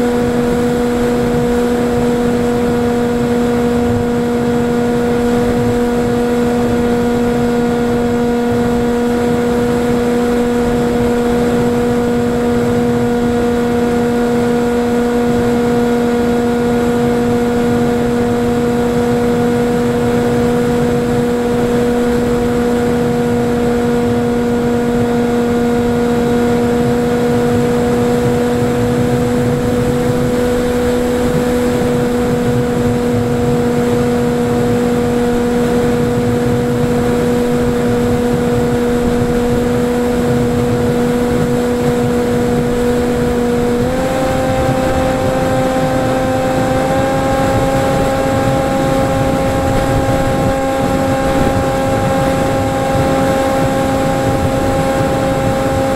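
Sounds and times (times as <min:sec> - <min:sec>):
electric motor and propeller drone: 0:00.0 - 0:55.9
wind noise on microphone: 0:00.0 - 0:55.9.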